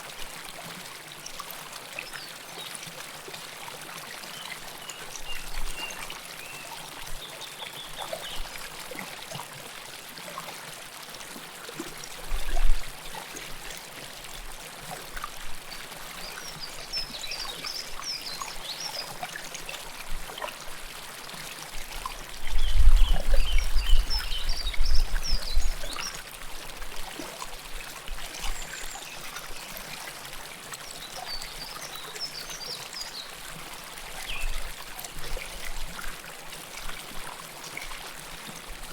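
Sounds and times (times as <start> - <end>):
river water flowing: 0.0 - 22.5, 23.1 - 38.9.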